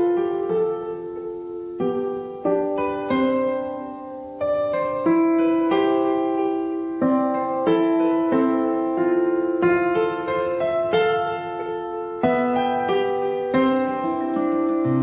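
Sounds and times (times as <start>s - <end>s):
slow solo piano piece: 0.0s - 15.0s.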